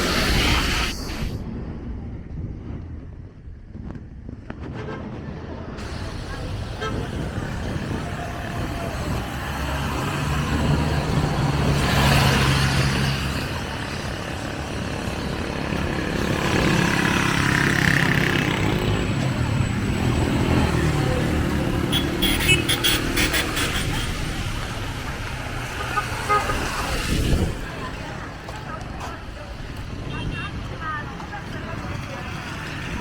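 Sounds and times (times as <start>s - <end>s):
vehicle engines passing: 5.3s - 33.0s.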